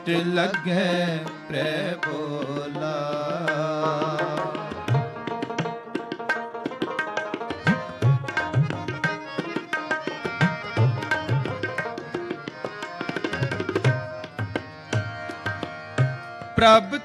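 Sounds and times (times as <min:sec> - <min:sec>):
held harmonium notes: 0:00.0 - 0:17.0
tabla strokes: 0:03.2 - 0:16.8.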